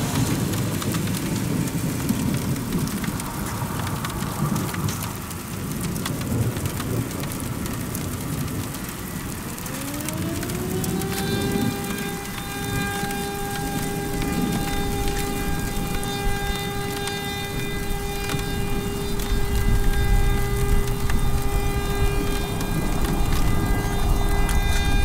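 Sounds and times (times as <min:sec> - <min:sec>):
heavy rain pattering: 0:00.0 - 0:25.0
siren wailing: 0:00.0 - 0:25.0
storm rumble: 0:00.0 - 0:25.0.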